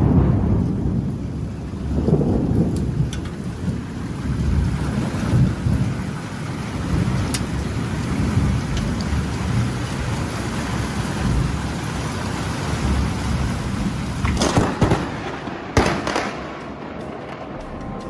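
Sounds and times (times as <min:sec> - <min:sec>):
low rumbling thunder: 0:00.0 - 0:18.0
sharp cracks of close thunder: 0:00.0 - 0:18.0
steady rain: 0:00.0 - 0:18.0.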